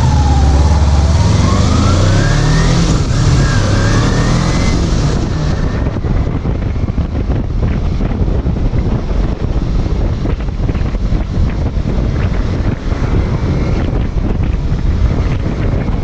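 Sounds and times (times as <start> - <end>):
motorcycle engine accelerating: 0.0 - 16.0
wind noise on microphone: 0.0 - 16.0.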